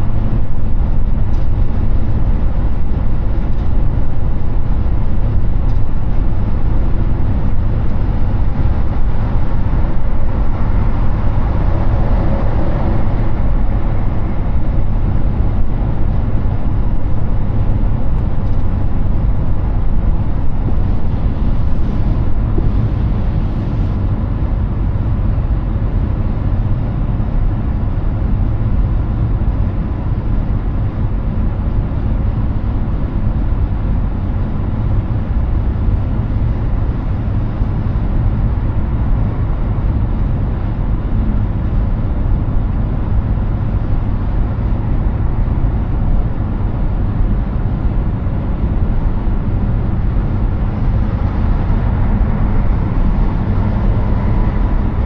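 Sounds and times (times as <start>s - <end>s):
tyre and wind road noise: 0.0s - 55.0s.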